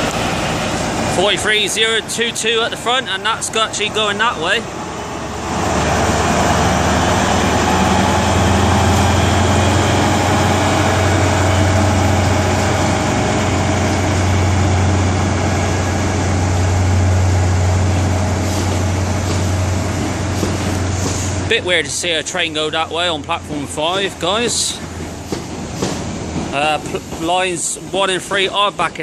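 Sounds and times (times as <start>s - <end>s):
train diesel engine drone: 0.0s - 29.0s.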